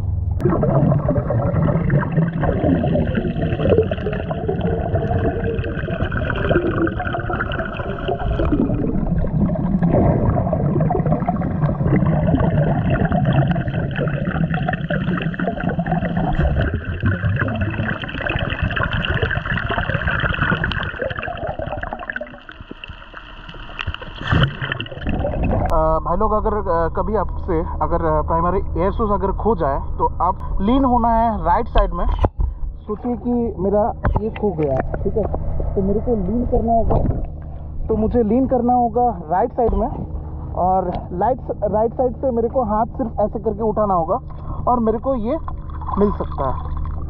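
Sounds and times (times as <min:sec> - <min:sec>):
water gurgling and bubbling: 0:00.0 - 0:47.0.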